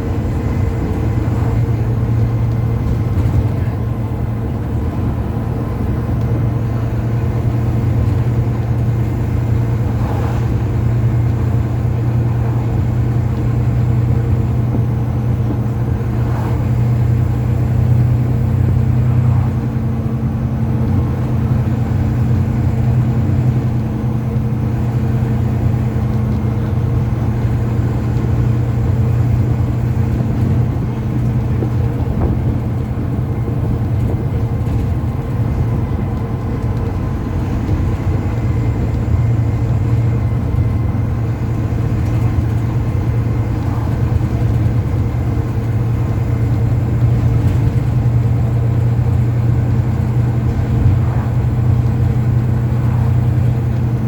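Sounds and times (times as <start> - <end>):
bus diesel engine droning: 0.0 - 54.0
road noise: 0.0 - 54.0.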